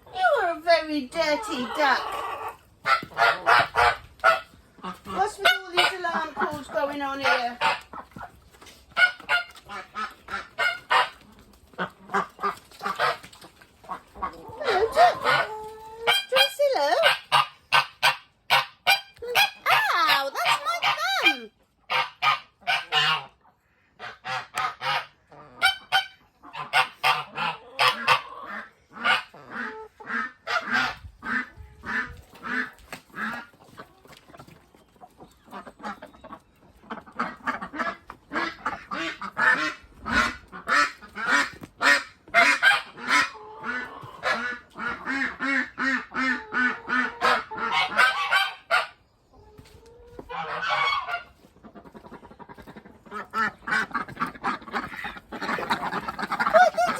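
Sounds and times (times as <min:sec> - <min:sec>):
ducks quacking: 0:00.1 - 0:56.9.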